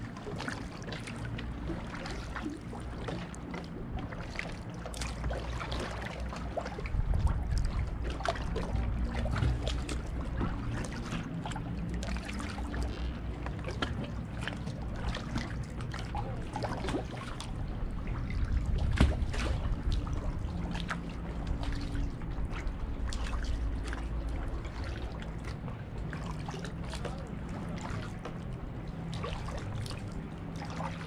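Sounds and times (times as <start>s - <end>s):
paddle blades dipping and dripping: 0.0s - 31.0s
steady low rumble: 0.0s - 31.0s
water lapping against kayak hull: 0.0s - 31.0s.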